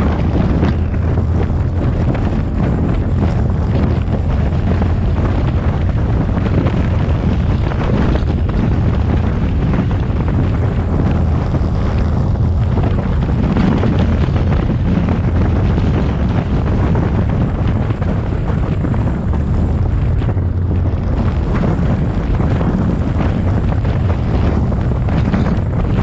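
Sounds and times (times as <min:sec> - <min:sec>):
vehicle engine and tyre drone: 0:00.0 - 0:26.0
wind buffeting microphone: 0:00.0 - 0:26.0.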